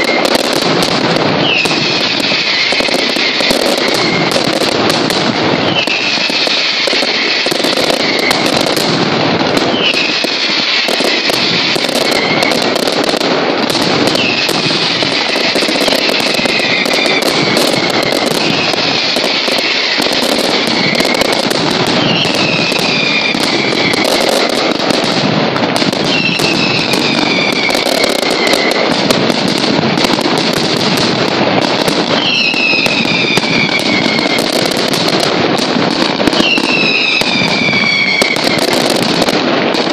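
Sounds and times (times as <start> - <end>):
firecracker barrage: 0.0 - 39.9
whistling fireworks: 0.0 - 39.9.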